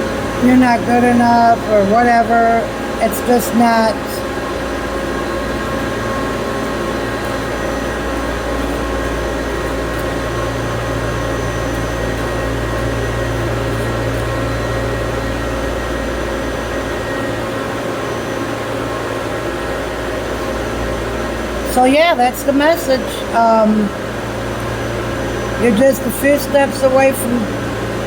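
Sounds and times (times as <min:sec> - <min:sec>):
air handling drone: 0:00.0 - 0:28.0
low hum: 0:00.0 - 0:28.0.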